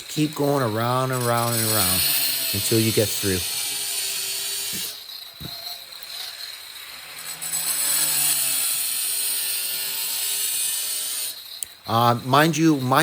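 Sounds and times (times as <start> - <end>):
angle grinder cutting tile: 0.0 - 13.0.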